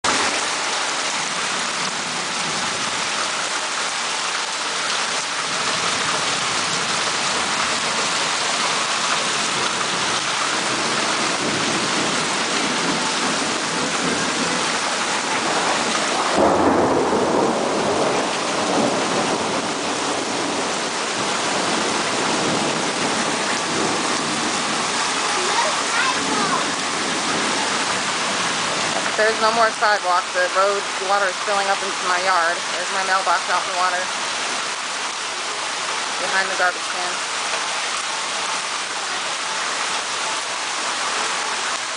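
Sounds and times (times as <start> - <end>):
deep rain surge: 0.0 - 39.2
heavy rain pouring: 0.0 - 41.9.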